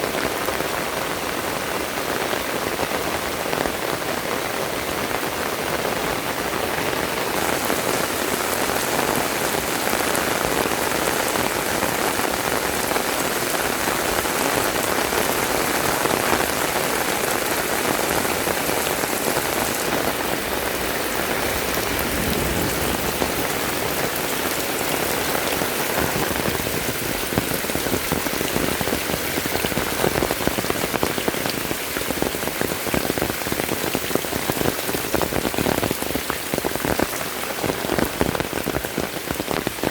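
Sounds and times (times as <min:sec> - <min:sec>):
heavy rain hissing: 0:00.0 - 0:39.9
close raindrop splats: 0:00.1 - 0:39.9.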